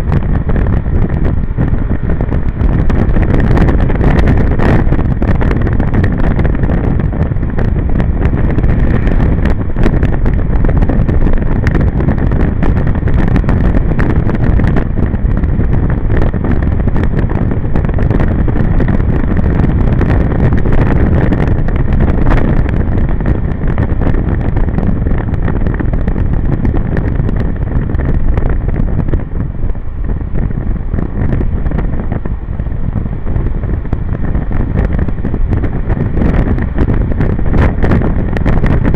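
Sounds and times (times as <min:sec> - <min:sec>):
tyre noise on wet road: 0:00.0 - 0:38.9
wind buffeting microphone: 0:00.0 - 0:38.9.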